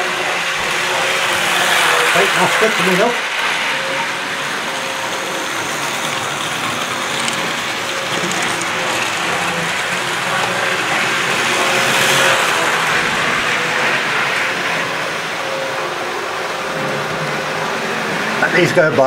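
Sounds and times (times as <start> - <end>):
faint motor whine: 0.0 - 19.0
model train motors whirring: 0.0 - 19.0
wheels rattling over track joints: 0.0 - 19.0.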